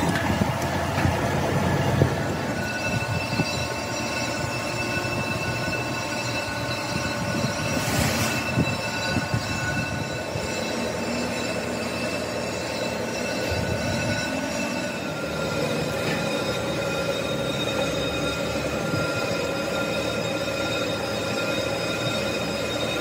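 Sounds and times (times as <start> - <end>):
metallic machining whine: 0.0 - 23.0.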